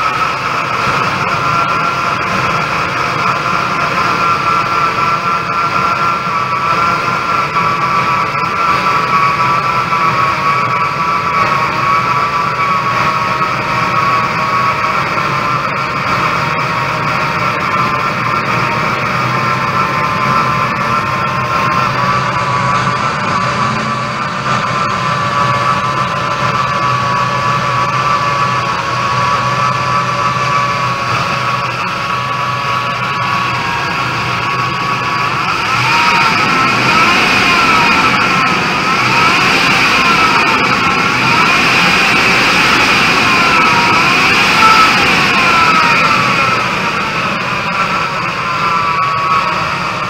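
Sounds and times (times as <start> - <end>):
engine running steadily: 0.0 - 50.0
high even whine: 0.0 - 50.0.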